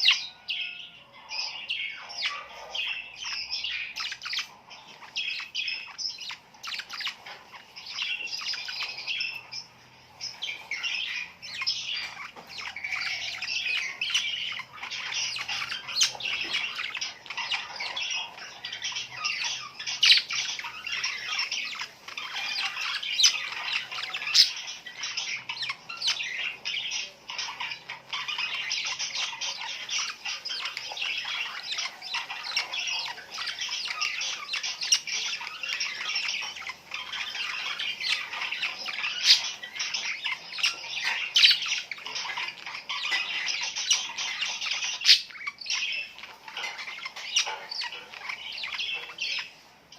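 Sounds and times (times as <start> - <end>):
small birds chirping and squawking: 0.0 - 49.9.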